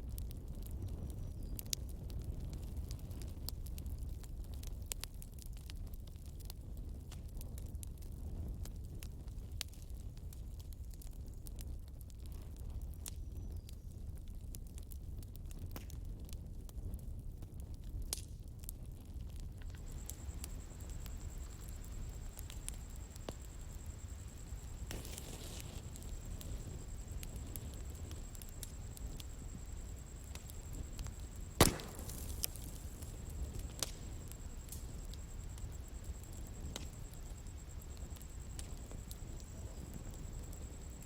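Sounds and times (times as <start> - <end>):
bonfire flames rumbling: 0.0 - 41.0
fire crackles and pops: 0.0 - 41.0.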